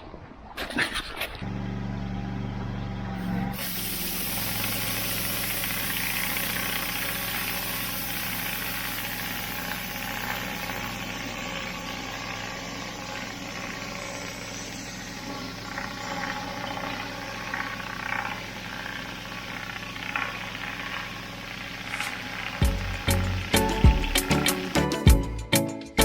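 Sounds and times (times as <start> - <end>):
pressure washer engine: 1.4 - 25.4
high-pressure water hiss: 3.3 - 25.0.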